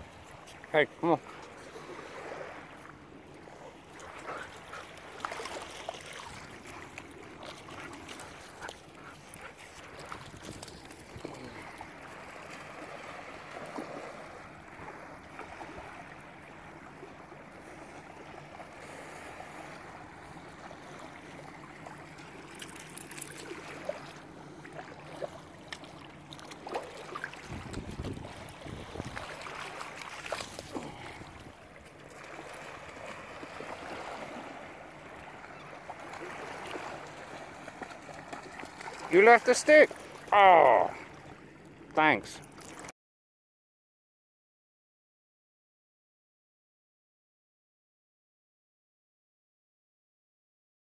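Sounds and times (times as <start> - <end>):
water splashing as dog wades: 0.0 - 41.4
small waves washing shore: 0.0 - 42.9.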